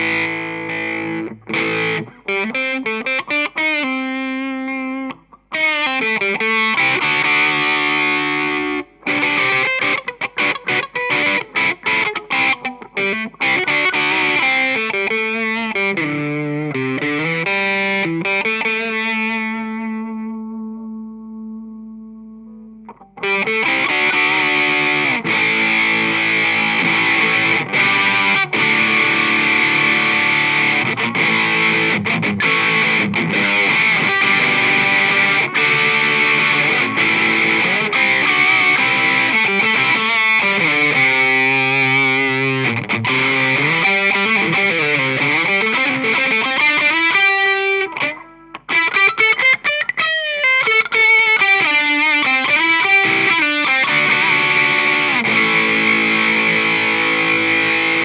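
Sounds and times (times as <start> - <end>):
distorted electric guitar riffing: 0.0 - 58.0.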